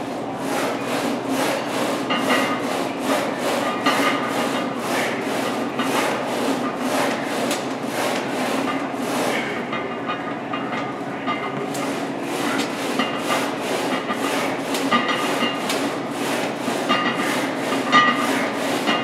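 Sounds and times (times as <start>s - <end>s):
leg press sled scraping on rails: 0.0s - 9.7s, 11.7s - 19.0s.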